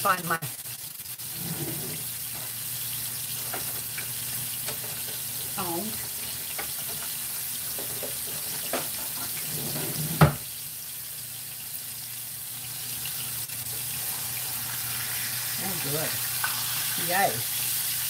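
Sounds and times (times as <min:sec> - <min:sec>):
steaks sizzling in a skillet: 0:00.0 - 0:18.0.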